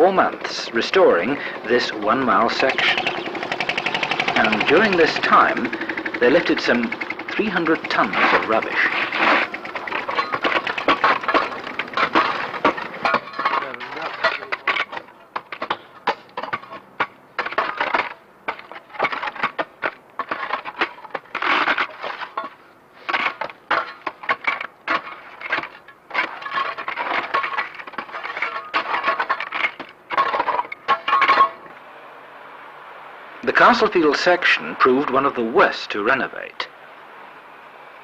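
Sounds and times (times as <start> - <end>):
hard debris clattering and cracking: 0.3 - 31.8.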